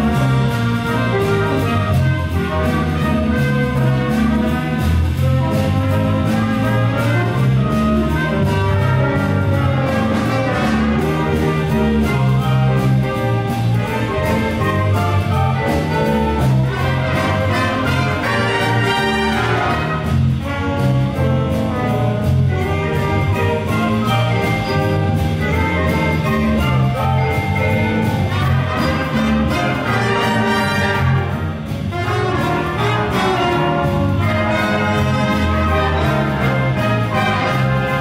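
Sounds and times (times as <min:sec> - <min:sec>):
wind band playing swing jazz: 0:00.0 - 0:38.0.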